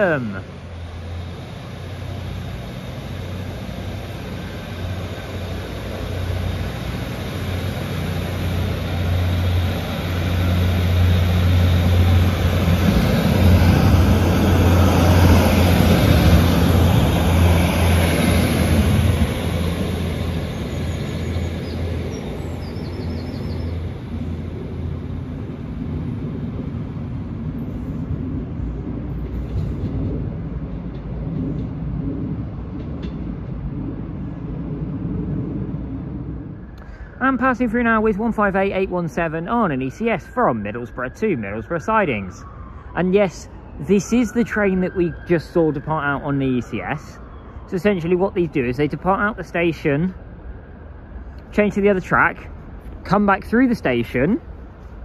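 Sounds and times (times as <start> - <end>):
diesel train engine humming: 0.0 - 55.0.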